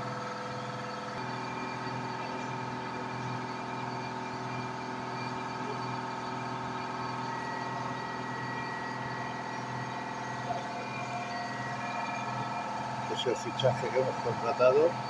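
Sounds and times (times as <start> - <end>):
high whine: 0.0 - 15.0
laser engraver humming: 0.0 - 15.0.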